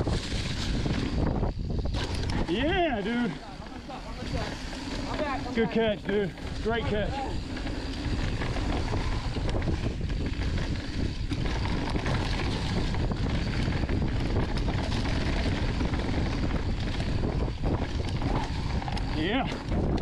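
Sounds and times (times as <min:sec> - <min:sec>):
bike knocks and rattles: 0:00.0 - 0:20.0
tyres rumbling on dirt: 0:00.0 - 0:20.0
wind rushing over microphone: 0:00.0 - 0:20.0.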